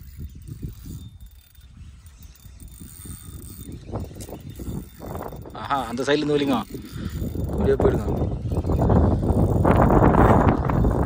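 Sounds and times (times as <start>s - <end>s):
fishing reel rattling: 0.0s - 11.0s.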